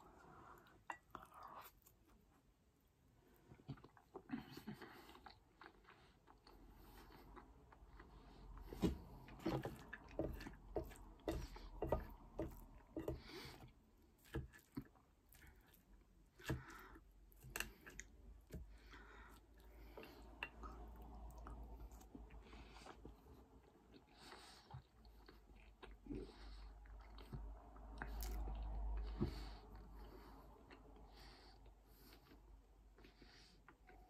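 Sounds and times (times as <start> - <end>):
close chewing: 3.6 - 31.2.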